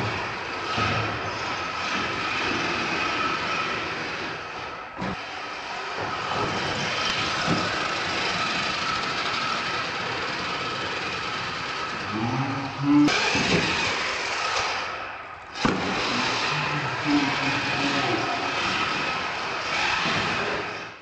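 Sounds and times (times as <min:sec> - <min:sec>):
toy truck motor whine: 0:00.0 - 0:21.0
tyre and drivetrain noise: 0:00.0 - 0:21.0.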